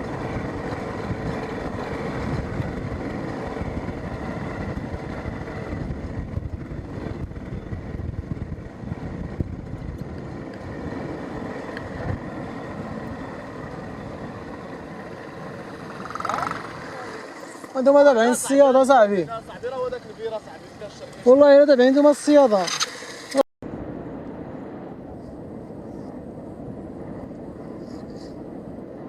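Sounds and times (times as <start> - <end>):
vehicle engine running: 0.0 - 23.4
rushing wind or sea: 0.0 - 29.0.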